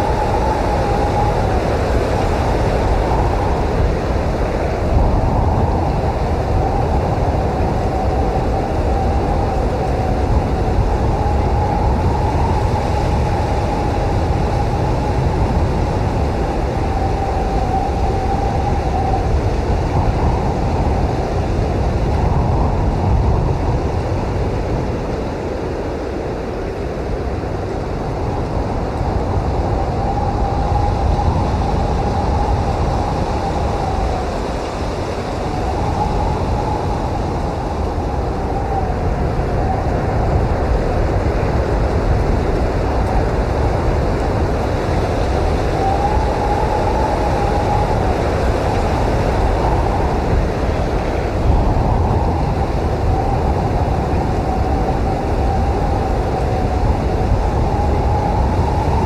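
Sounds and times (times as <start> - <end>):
blizzard wind rumbling: 0.0 - 59.0
wind whistling howl: 0.0 - 59.0.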